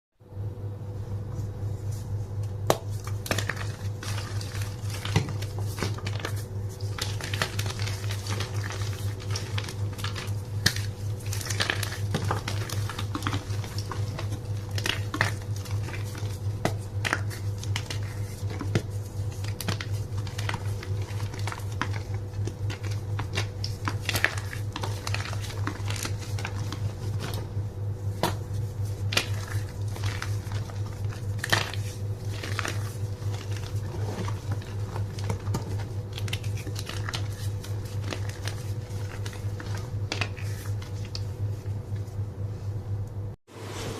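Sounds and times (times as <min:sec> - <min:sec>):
steady low hum: 0:00.2 - 0:43.9.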